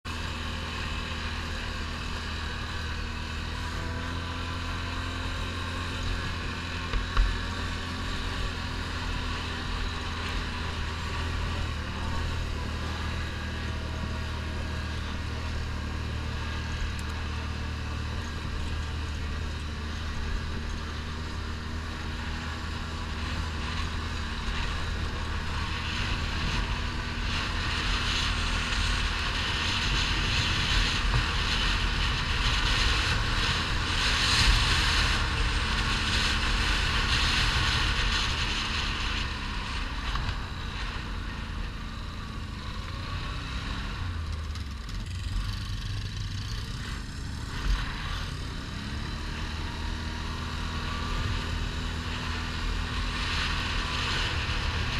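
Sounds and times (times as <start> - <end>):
quad bike engine running: 0.0 - 54.9
tires on gravel: 0.0 - 54.9.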